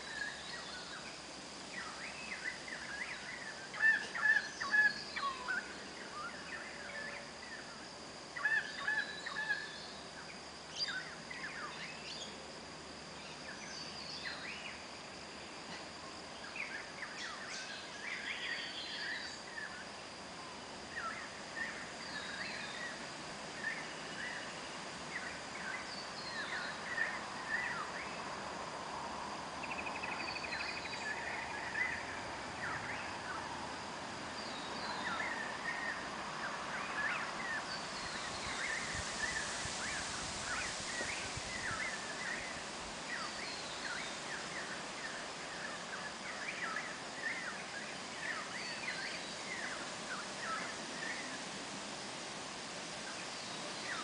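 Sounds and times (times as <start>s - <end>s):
thin steady high tone: 0.0s - 54.0s.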